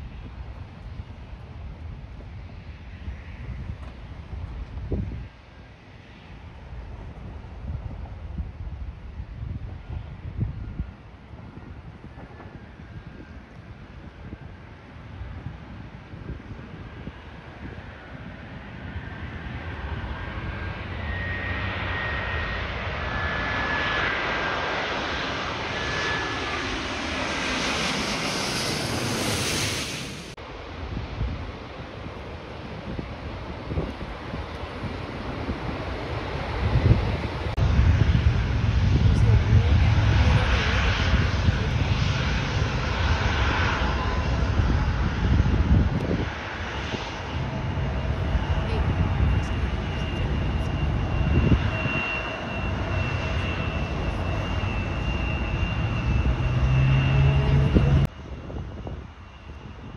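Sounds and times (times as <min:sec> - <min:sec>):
jet airliner passing overhead: 0:00.0 - 0:59.9
thin jet engine whine: 0:00.0 - 0:59.9.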